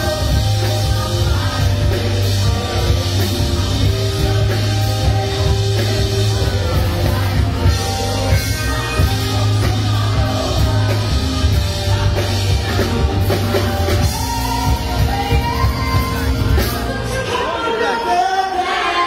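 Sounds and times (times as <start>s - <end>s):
live rock band playing: 0.0s - 17.6s
women singing: 0.0s - 19.0s.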